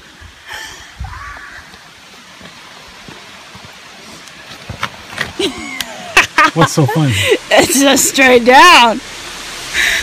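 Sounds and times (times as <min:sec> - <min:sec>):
waterfall hiss: 0:00.0 - 0:10.0.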